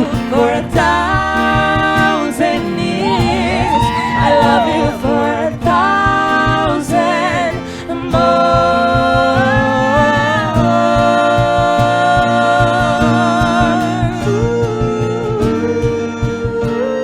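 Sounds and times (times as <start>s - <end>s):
live band music: 0.0s - 17.0s
long held sung notes: 0.0s - 17.0s.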